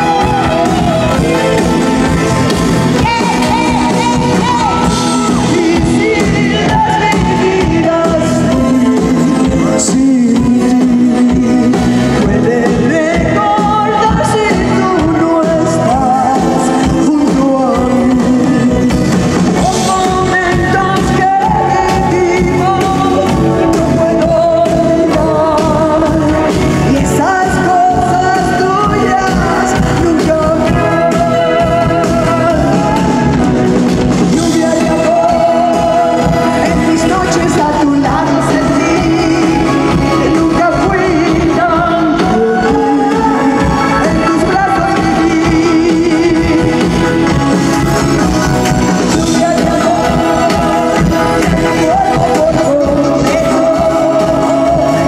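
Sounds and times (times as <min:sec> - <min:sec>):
woman singing: 0:00.0 - 0:47.8, 0:48.4 - 0:55.0
crowd shouting and cheering: 0:00.0 - 0:55.0
live pop band music: 0:00.0 - 0:55.0.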